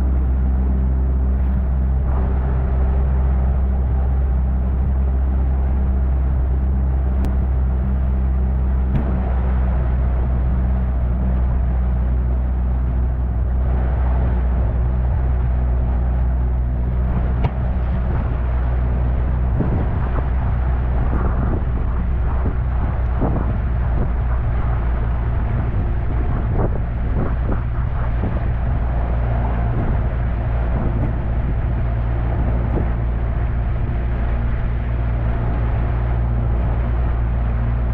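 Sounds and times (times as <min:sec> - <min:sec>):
outboard motor running: 0:00.0 - 0:37.9.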